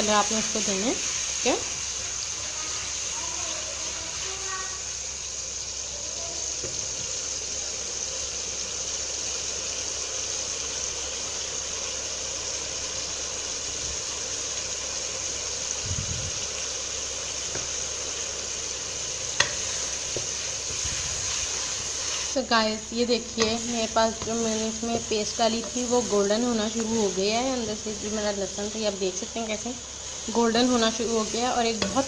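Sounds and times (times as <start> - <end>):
paste sizzling in hot fat: 0.0 - 32.0.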